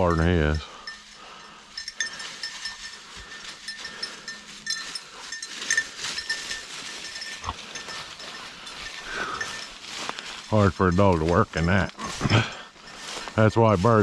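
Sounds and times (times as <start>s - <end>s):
brush rustling: 0.0s - 14.0s
dog collar bell tinkling: 0.0s - 14.0s.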